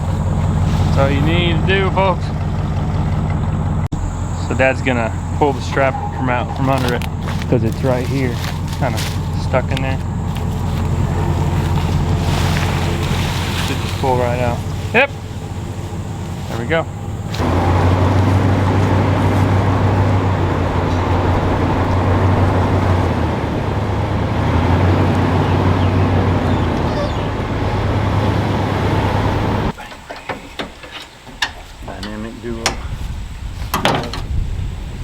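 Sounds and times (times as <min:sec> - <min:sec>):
vehicle engine running: 0:00.0 - 0:29.8.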